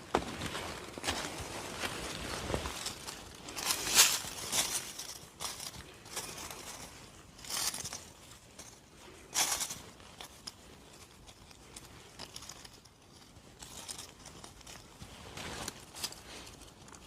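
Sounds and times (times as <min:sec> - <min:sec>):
leaves rustling and crunching: 0:00.0 - 0:17.0.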